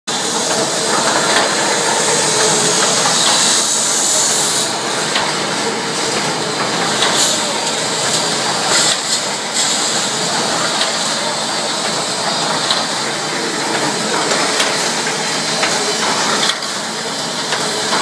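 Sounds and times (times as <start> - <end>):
welding machine hissing: 0.1 - 18.0.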